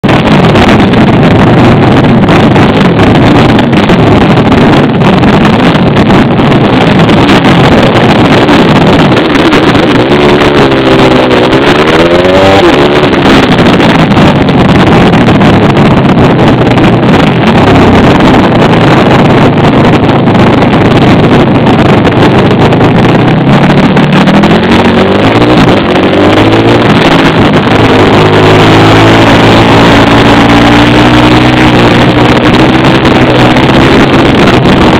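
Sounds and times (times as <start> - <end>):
dense rushing noise: 0.0 - 34.9
motorbike engine revving: 0.0 - 34.9.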